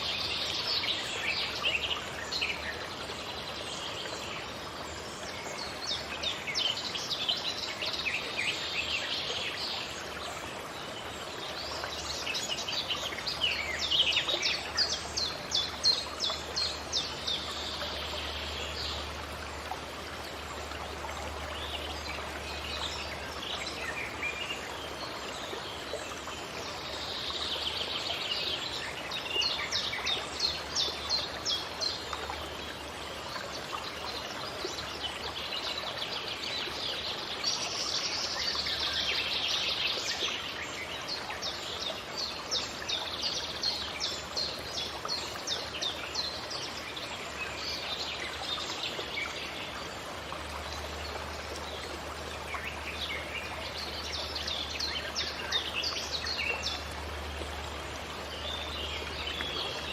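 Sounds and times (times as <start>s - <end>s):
forest birds singing: 0.0s - 59.9s
running water rushing: 0.0s - 59.9s.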